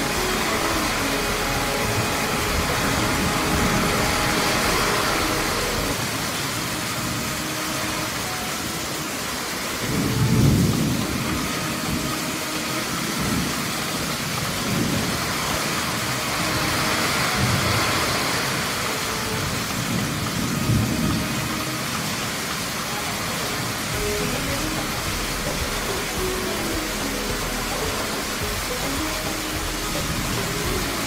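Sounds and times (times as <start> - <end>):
runoff splashing onto concrete: 0.0 - 31.0
very heavy rain: 0.0 - 31.0.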